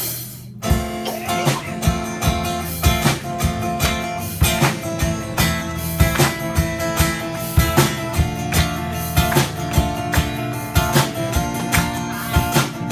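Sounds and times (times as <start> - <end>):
steady beat: 0.0 - 12.9
strummed acoustic guitar: 0.0 - 12.9.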